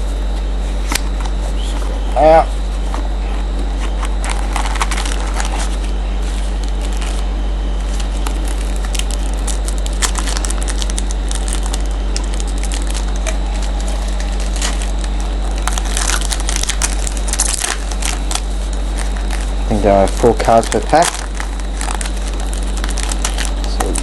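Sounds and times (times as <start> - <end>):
low electrical hum: 0.0 - 24.0
foil wrappers crinkling: 2.7 - 24.0.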